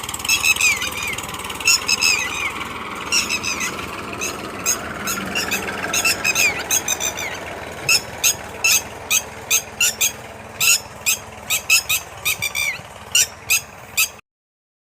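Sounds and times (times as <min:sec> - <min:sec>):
birds chirping high calls: 0:00.0 - 0:14.2
low background rumble: 0:00.0 - 0:14.2.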